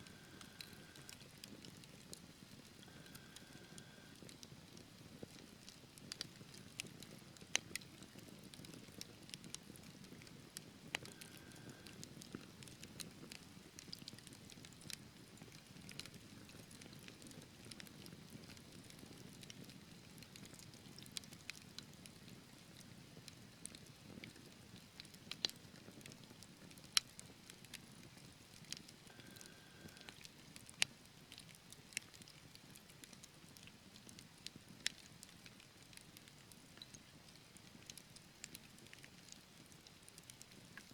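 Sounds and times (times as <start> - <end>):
burning logs crackling and popping: 0.0 - 40.9.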